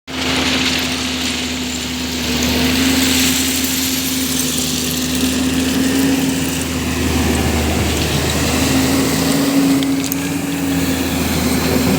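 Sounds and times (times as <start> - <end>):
excavator diesel engine running: 0.1 - 11.9.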